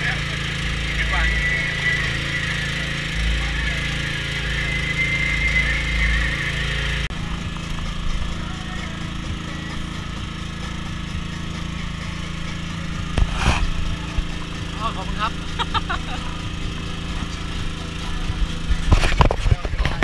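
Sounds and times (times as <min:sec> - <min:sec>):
petrol generator running: 0:00.0 - 0:20.0.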